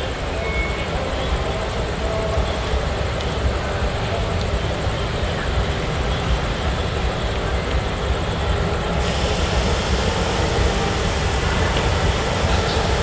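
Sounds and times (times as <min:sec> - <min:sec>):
train engine rumble: 0:00.0 - 0:13.0.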